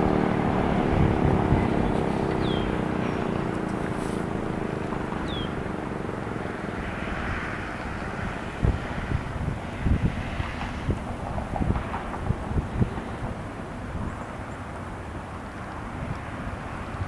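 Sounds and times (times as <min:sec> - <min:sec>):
outdoor rumble: 0:00.0 - 0:17.0
wind buffeting microphone: 0:00.0 - 0:17.0.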